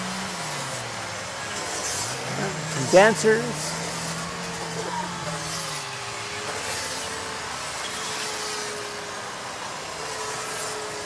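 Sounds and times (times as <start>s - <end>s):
small chainsaws droning: 0.0s - 11.0s.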